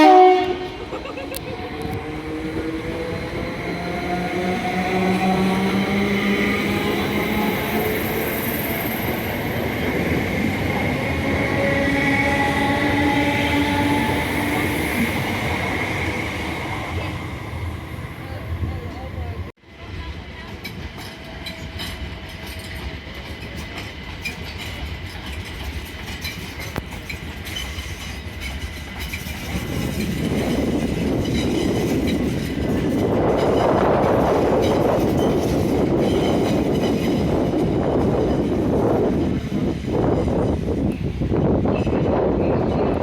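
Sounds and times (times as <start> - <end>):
train moving along tracks: 0.0 - 43.0.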